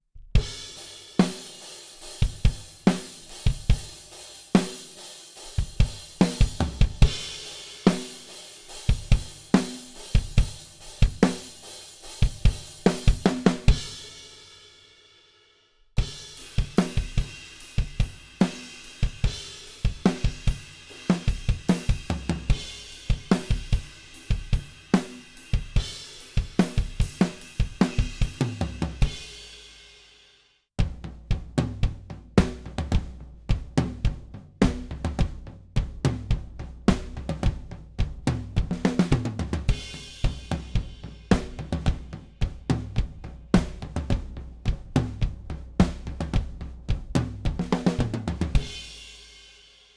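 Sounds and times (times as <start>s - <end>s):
drum kit grooves: 0.2s - 14.9s, 16.0s - 30.0s, 30.8s - 49.7s.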